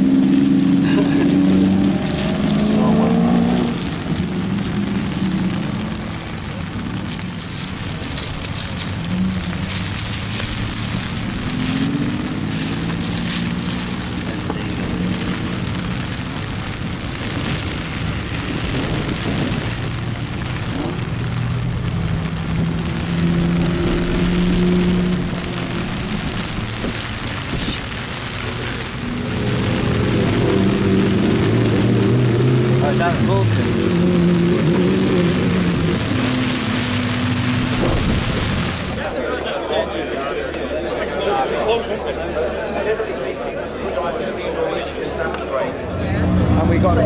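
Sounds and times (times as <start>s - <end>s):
car engines revving: 0.0s - 47.0s
rain and tyre spray hiss: 0.0s - 47.0s.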